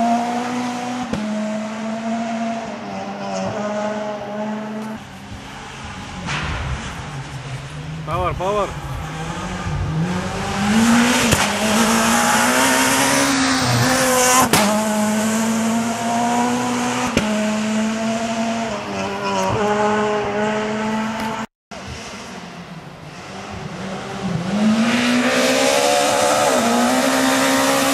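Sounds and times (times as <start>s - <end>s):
rally car engine at high revs: 0.0s - 27.9s.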